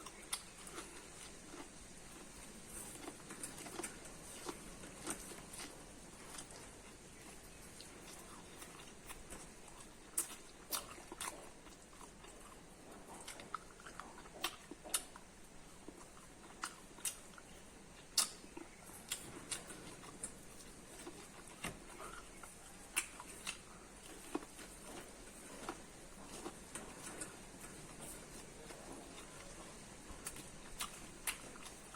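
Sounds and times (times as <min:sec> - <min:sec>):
person chewing corn: 0:00.0 - 0:31.9.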